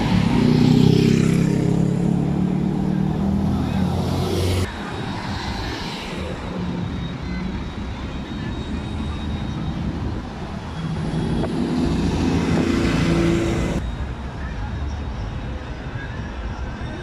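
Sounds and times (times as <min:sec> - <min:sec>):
engine hum: 0:00.0 - 0:13.8
road noise: 0:00.0 - 0:17.0
vehicle engines running: 0:00.0 - 0:17.0.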